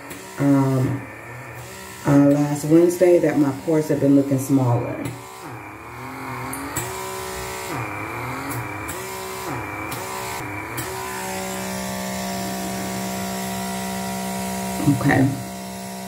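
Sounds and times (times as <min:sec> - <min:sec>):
suction device motor whine: 0:00.0 - 0:16.0.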